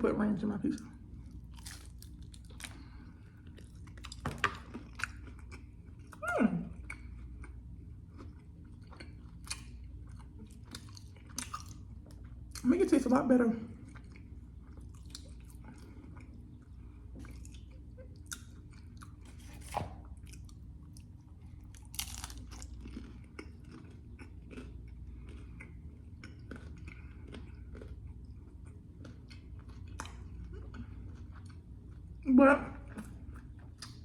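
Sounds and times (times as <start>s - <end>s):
person chewing food: 0.8s - 12.6s, 13.7s - 32.2s, 32.9s - 34.0s.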